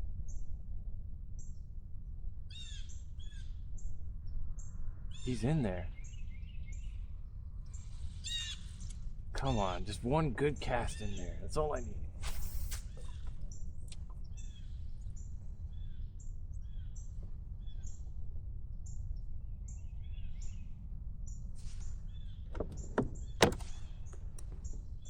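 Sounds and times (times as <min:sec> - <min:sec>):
steady low rumble: 0:00.0 - 0:25.0
small birds chirping: 0:02.5 - 0:18.2, 0:18.8 - 0:25.0.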